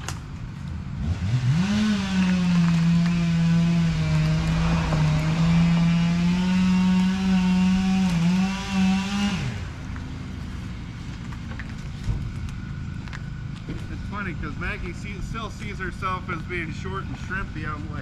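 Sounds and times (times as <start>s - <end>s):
engine running hard: 0.0s - 18.0s.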